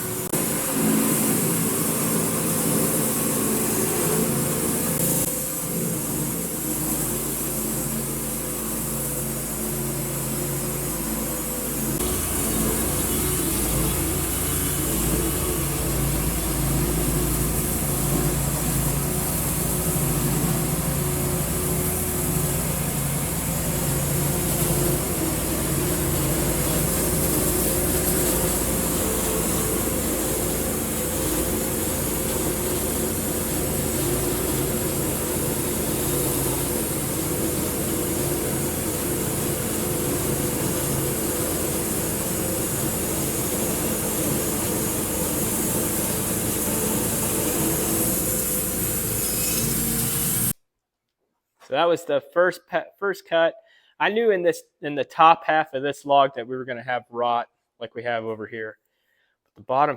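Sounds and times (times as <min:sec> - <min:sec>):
saw blade hissing in wood: 0:00.0 - 0:50.6
sawmill motor hum: 0:00.0 - 0:50.6.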